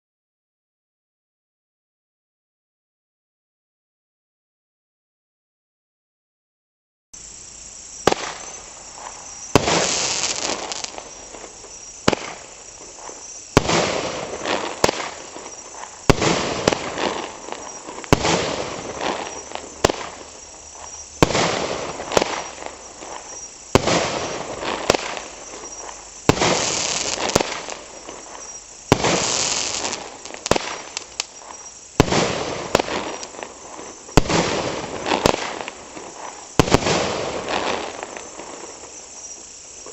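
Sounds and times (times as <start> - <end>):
fireworks bangs and crackling: 7.2 - 39.9.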